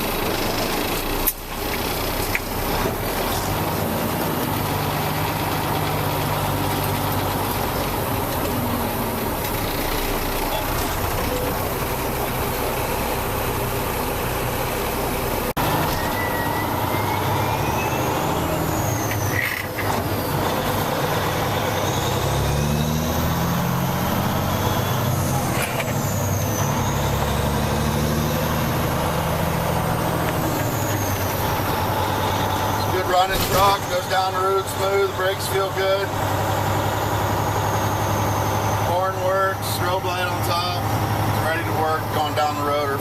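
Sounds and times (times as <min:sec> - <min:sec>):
truck diesel engine running: 0:00.0 - 0:43.0.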